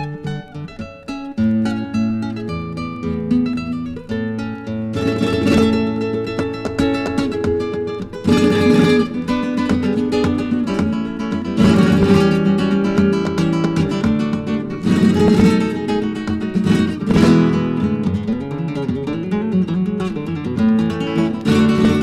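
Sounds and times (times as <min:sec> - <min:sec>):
flamenco acoustic guitar: 0:00.0 - 0:22.0.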